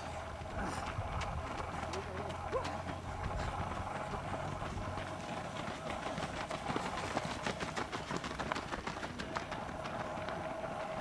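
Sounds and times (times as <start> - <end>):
runners' footsteps on dirt: 0.0 - 11.0.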